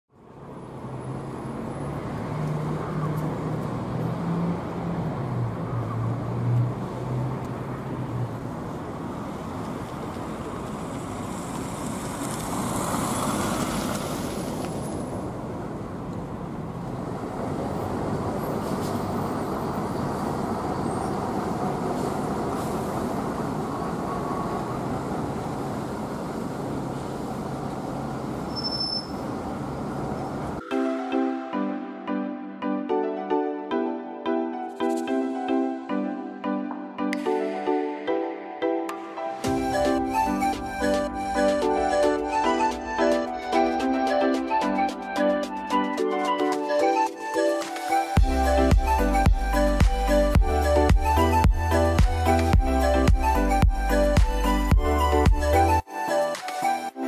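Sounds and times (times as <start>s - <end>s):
bus engines running: 0.1s - 30.6s, 39.4s - 55.8s
traffic noise: 0.1s - 57.0s.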